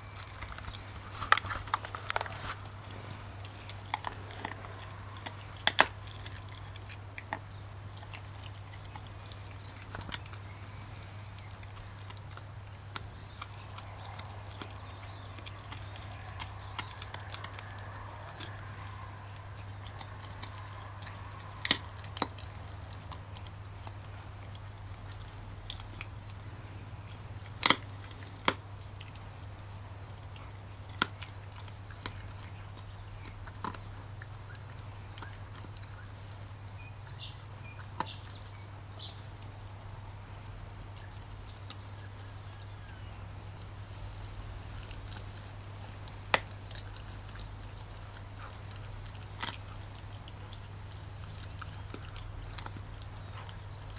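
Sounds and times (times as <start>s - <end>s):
bone cracking and crunching: 0.0s - 40.0s, 40.6s - 53.9s
dog chewing: 0.0s - 53.9s.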